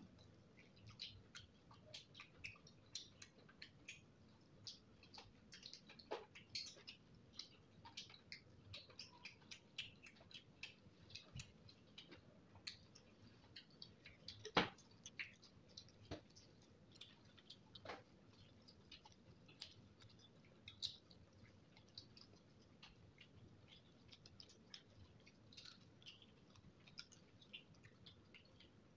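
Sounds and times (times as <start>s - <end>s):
wet chewing and lip-smacking: 0.0s - 28.9s.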